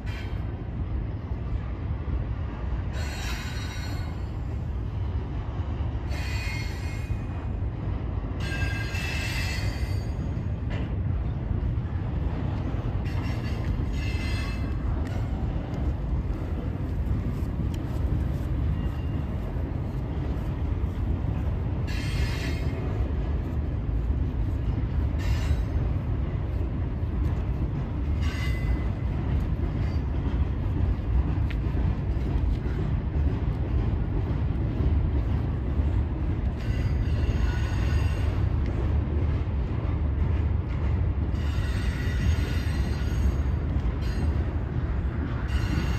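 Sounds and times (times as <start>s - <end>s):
freight train rumbling over bridge: 0.0s - 45.9s.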